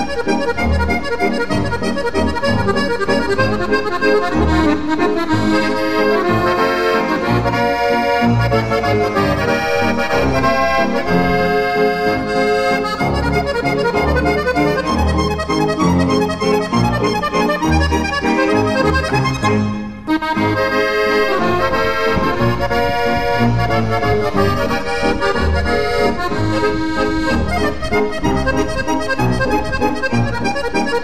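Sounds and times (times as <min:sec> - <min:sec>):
folk tune on accordion: 0:00.0 - 0:31.0.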